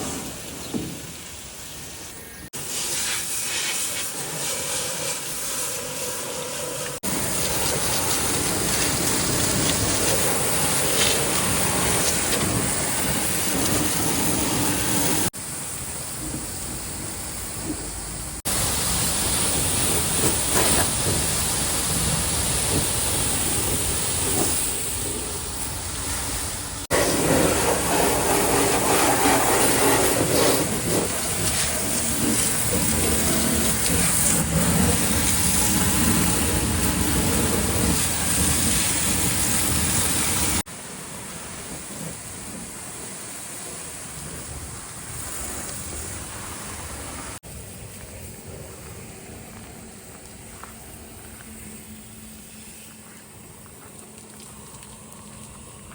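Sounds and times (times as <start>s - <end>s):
water jet spraying on metal: 0.0s - 47.4s.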